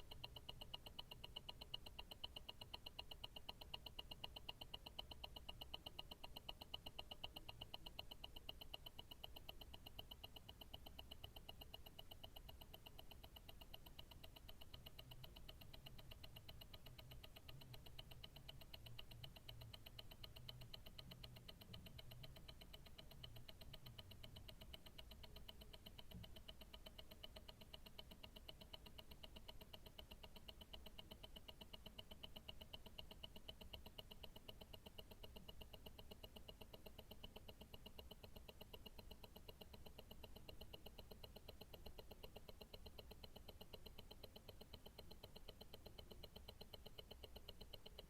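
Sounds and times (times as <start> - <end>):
watch ticking: 0.0 - 48.0.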